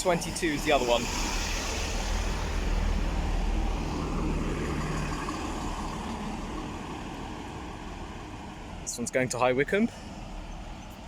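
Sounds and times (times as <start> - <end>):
train diesel engine rumble: 0.0 - 11.0.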